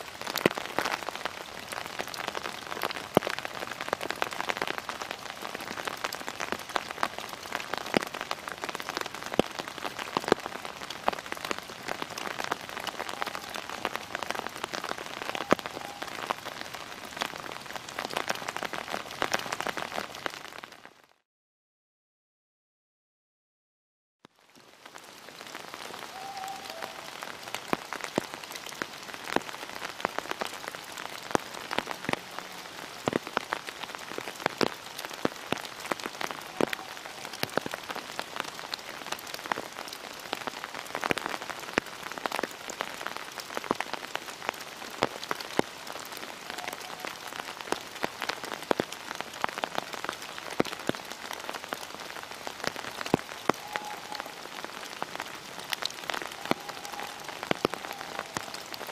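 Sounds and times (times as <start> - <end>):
rain pattering on leaves: 0.0 - 21.2, 24.3 - 58.9.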